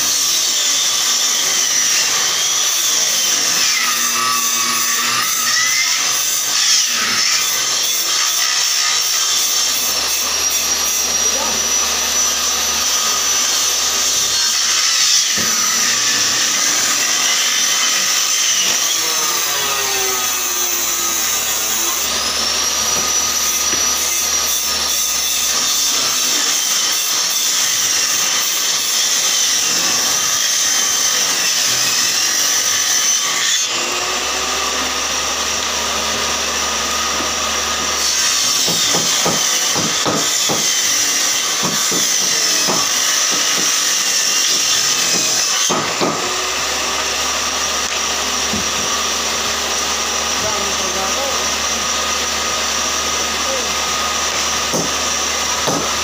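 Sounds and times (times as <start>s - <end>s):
table saw cutting wood: 0.0s - 56.0s.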